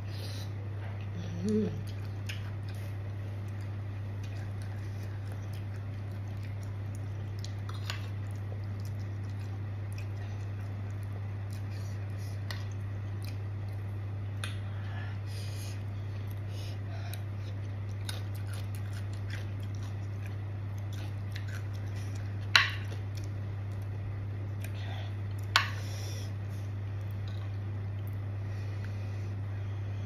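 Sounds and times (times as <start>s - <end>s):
low hum: 0.0s - 30.0s
person chewing: 0.9s - 14.8s, 15.4s - 28.3s.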